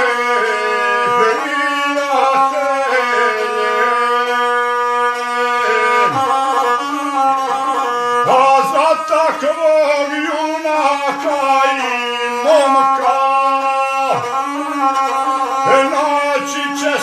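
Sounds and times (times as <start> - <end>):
bowed single-string fiddle: 0.0 - 17.0.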